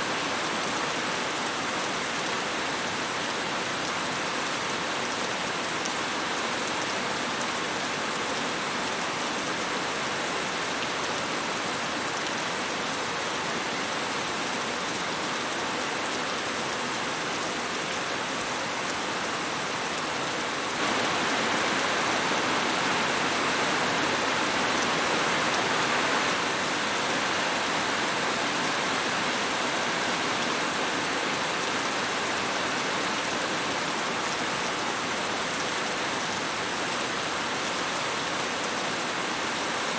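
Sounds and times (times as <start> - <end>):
rain falling: 0.1 - 39.9.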